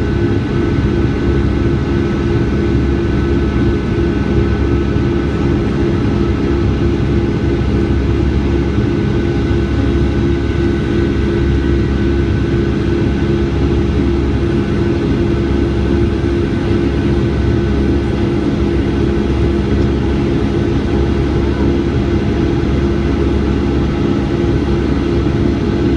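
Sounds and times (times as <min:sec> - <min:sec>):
jet engine cabin drone: 0:00.0 - 0:25.9.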